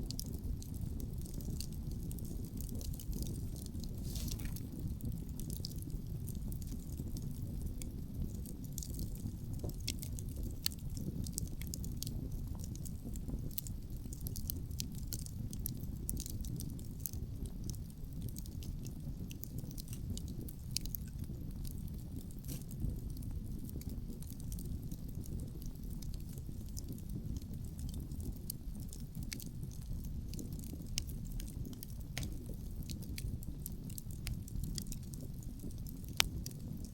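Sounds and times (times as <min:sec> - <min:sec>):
low rumble of wind: 0:00.0 - 0:36.9
wood fire crackling: 0:00.0 - 0:36.9.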